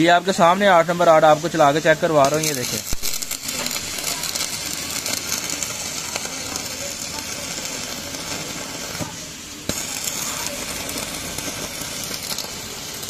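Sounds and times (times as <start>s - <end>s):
sharp crack of welding arc: 0.0s - 13.0s
welding arc crackling hiss: 0.0s - 13.0s.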